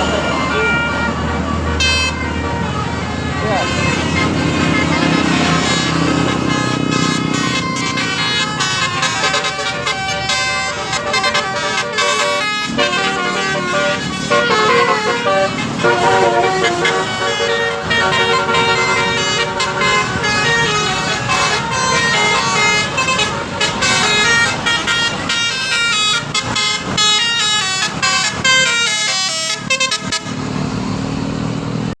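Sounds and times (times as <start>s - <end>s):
bus horn melodies: 0.0s - 30.5s.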